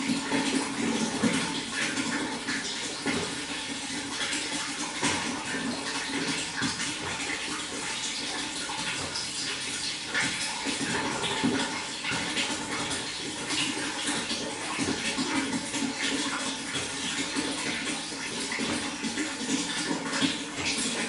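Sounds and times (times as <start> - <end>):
water flowing with splashes: 0.0 - 21.0.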